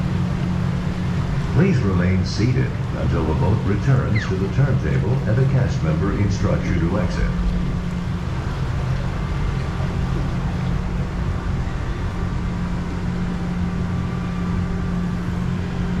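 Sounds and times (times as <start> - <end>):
conveyor lift mechanical hum: 0.0 - 16.0.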